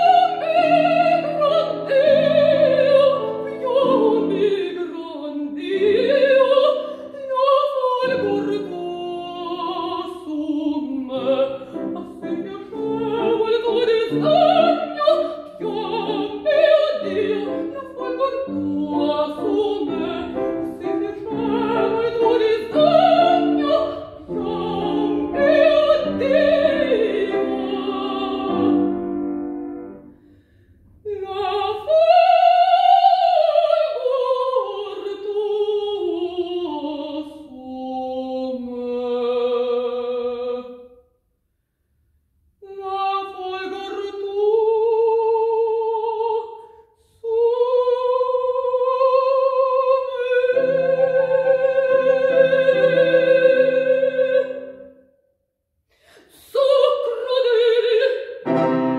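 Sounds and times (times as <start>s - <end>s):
woman singing operatically: 0.0s - 29.0s, 31.0s - 40.9s, 42.6s - 54.9s, 56.1s - 58.9s
grand piano: 0.0s - 40.6s, 47.7s - 55.0s, 56.6s - 58.9s.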